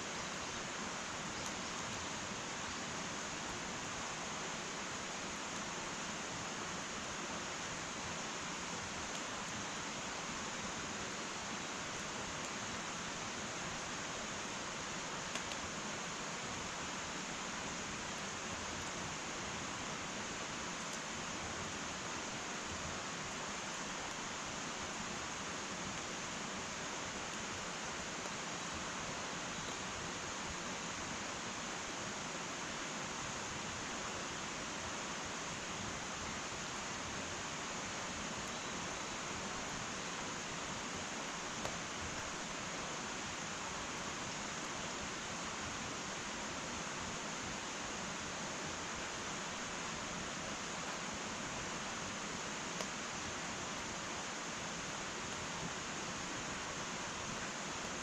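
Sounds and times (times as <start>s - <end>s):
wood fire hissing: 0.0s - 58.0s.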